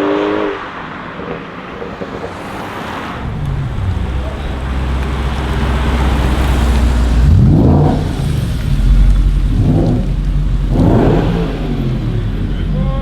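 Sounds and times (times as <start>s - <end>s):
car engine revving: 2.2s - 13.0s.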